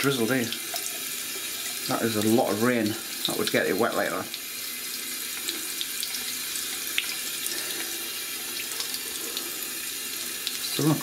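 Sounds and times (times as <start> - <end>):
tap water stream splashing: 0.0 - 11.0.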